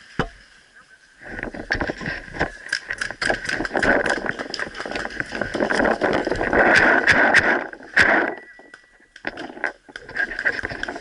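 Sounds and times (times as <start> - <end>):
rapid irregular clicks and rattling: 1.4 - 11.0.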